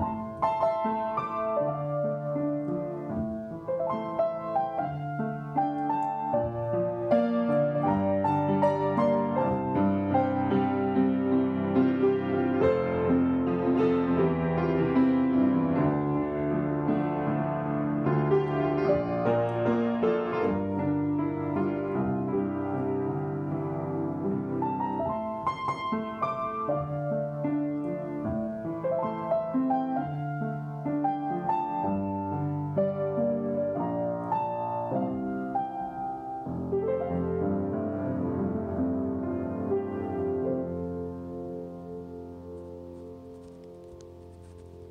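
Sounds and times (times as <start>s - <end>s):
solo piano ballad: 0.0s - 44.9s.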